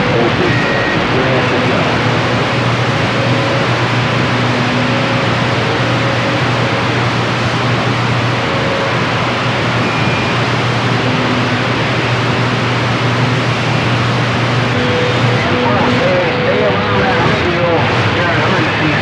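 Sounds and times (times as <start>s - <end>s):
low hum: 0.0s - 19.0s
radio static hiss: 0.0s - 19.0s.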